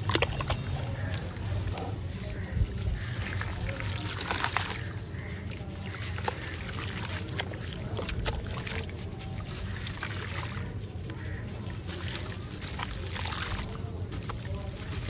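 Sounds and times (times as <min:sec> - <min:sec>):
grit trickling into water: 0:00.0 - 0:15.0
soft crunching of crumbling cement: 0:00.0 - 0:15.0.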